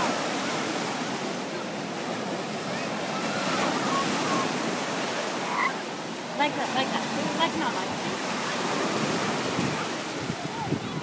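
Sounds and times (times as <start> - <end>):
ocean surf washing on beach: 0.0 - 11.0
faint voices: 0.1 - 11.0.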